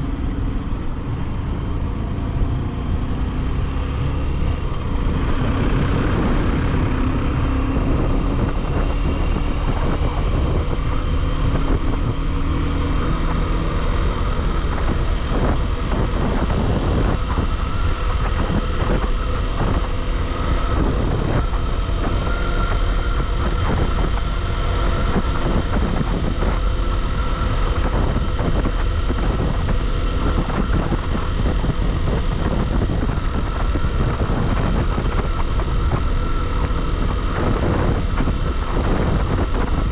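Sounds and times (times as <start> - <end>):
motorcycle engine: 0.0 - 39.9
road noise: 0.0 - 39.9.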